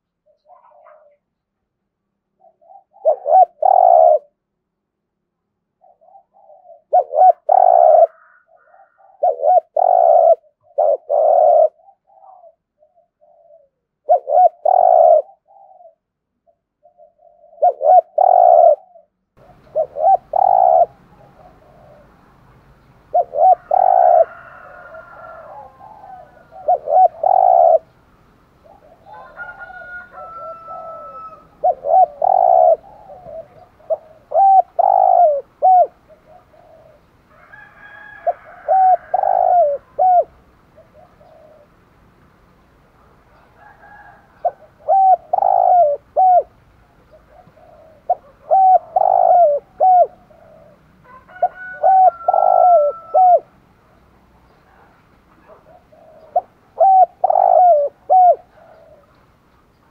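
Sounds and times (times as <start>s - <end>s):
dove cooing: 0.0s - 1.2s, 2.4s - 4.4s, 5.8s - 22.2s, 23.1s - 27.9s, 28.6s - 41.8s, 43.3s - 53.6s, 54.6s - 59.2s.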